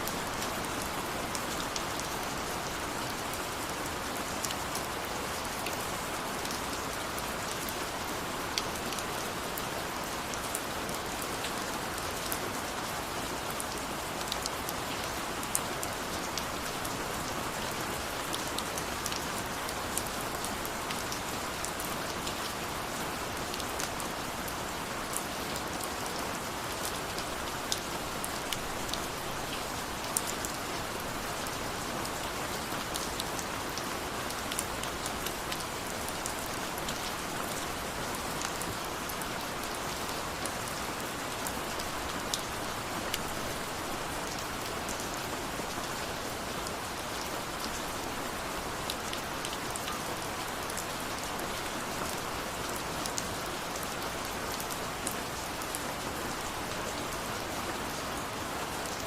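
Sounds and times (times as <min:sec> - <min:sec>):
raindrops ticking on a surface: 0:00.0 - 0:55.8
steady rain hiss: 0:00.0 - 0:59.0.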